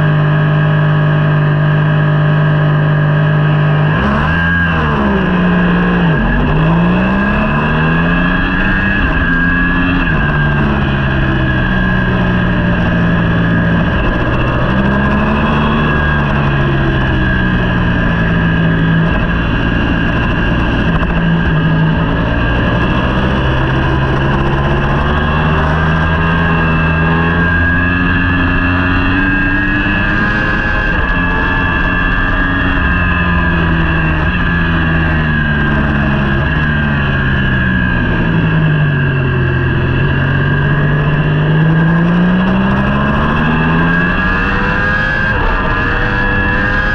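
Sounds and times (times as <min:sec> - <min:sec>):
motorcycle engine revving high: 0:00.0 - 0:46.9.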